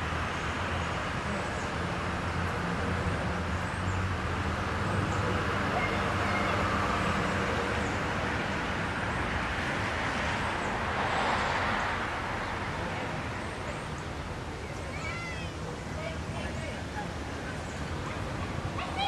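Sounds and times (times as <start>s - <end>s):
road vehicle passing by: 0.0s - 19.0s.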